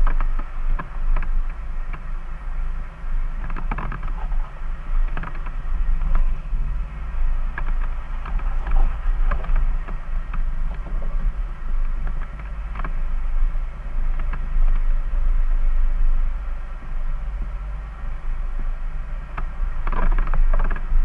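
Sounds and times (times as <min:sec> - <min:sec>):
engine rumbling at low revs: 0:00.0 - 0:21.0.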